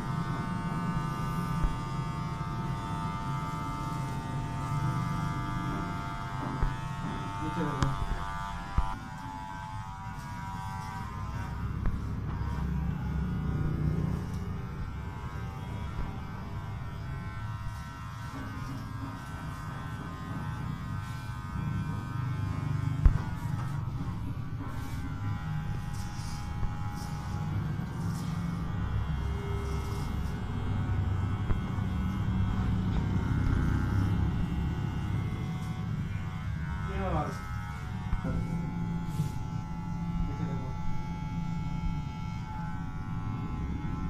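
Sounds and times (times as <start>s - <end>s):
electric hair clippers buzzing: 0.0s - 44.0s.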